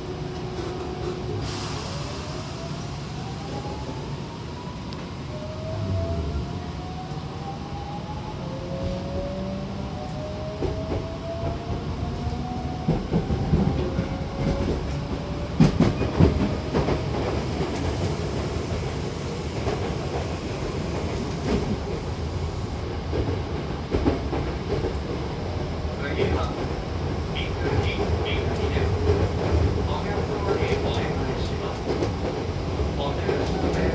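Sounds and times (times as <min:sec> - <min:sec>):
train rumble: 0:00.0 - 0:33.9.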